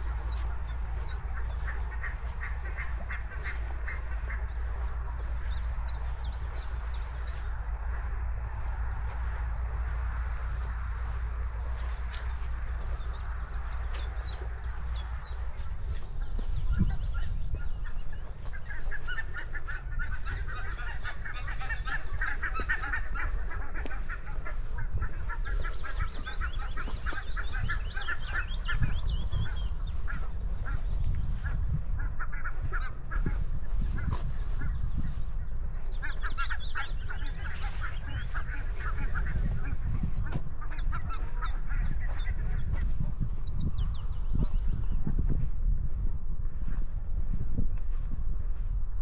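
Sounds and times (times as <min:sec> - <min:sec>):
geese honking: 0:00.0 - 0:43.3
steady low rumble: 0:00.0 - 0:49.0.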